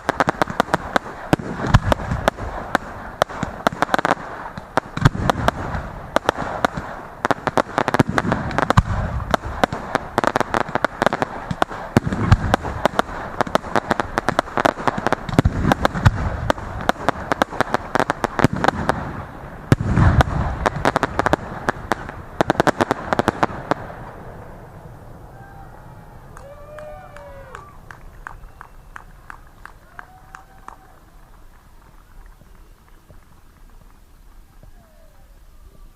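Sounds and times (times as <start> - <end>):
fireworks booming bursts: 0.0 - 34.8
fireworks crackling: 0.0 - 35.9.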